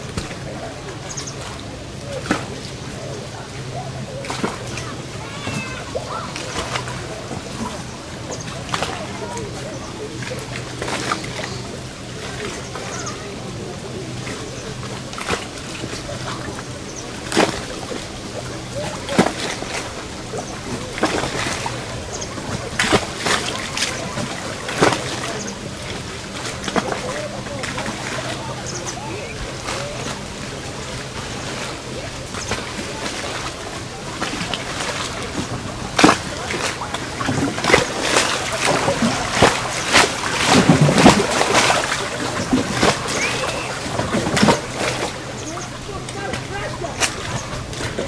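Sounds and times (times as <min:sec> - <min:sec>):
water sloshing and lapping: 0:00.0 - 0:48.0
water splashing: 0:00.0 - 0:48.0.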